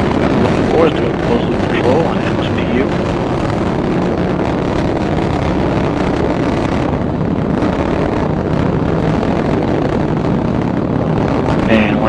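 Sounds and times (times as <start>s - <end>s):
rocket engine rumbling: 0.0s - 12.0s.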